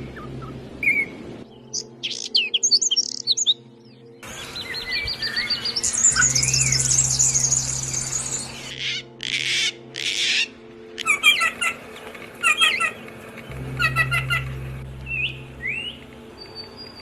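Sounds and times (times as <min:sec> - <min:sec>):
songbirds trilling and chirping: 0:00.0 - 0:17.0.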